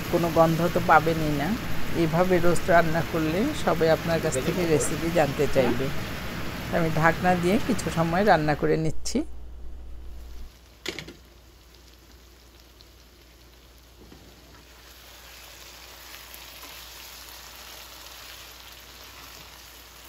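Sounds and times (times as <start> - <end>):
chicken sizzling in oil: 0.0 - 8.4, 10.5 - 20.0.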